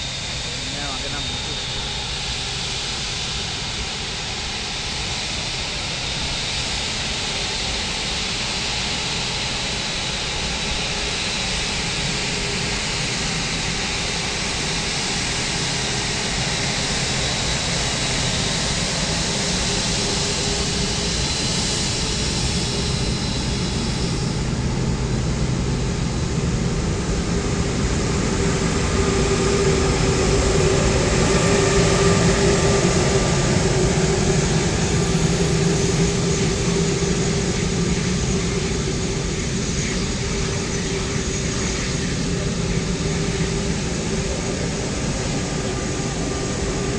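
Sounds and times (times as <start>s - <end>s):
jet engines whine and rumble: 0.0s - 46.9s.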